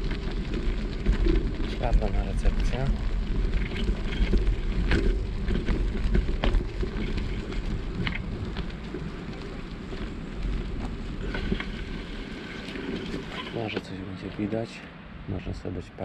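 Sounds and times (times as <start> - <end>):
gravel crunching: 0.0 - 15.5
wind buffeting microphone: 0.0 - 15.5.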